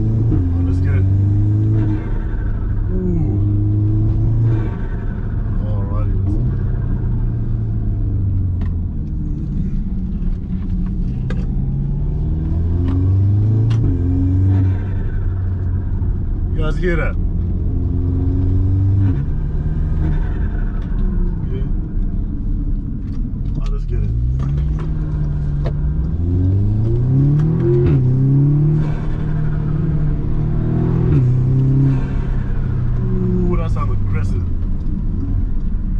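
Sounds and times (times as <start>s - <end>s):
car engine accelerating: 0.0s - 35.9s.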